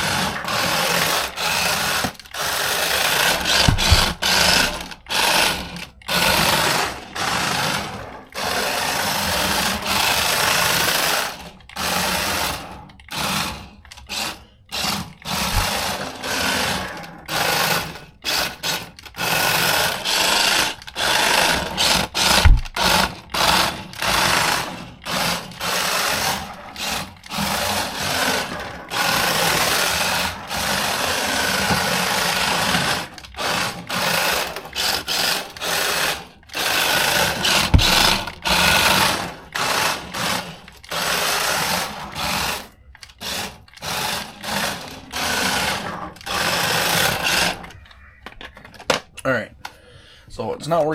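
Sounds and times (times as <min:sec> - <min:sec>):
toy car electric motor whining: 0:00.0 - 0:49.0.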